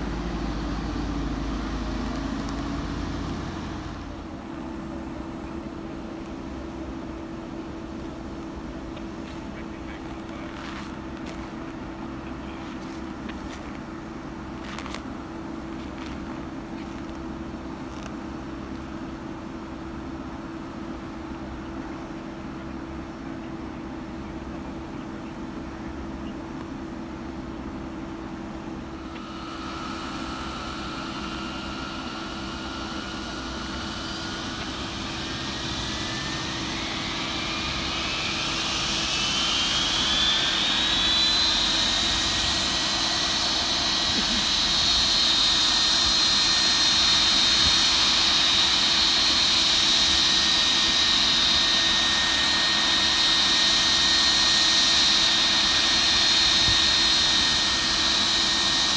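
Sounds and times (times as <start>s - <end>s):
jet engine starting up: 0.0s - 58.9s
jet engine whine: 0.0s - 58.9s.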